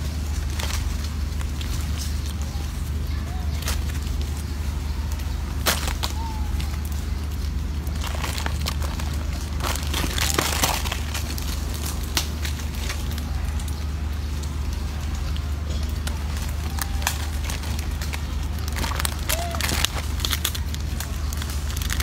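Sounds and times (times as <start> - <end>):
plastic wrappers crinkling: 0.0 - 22.0
steady low hum: 0.0 - 22.0.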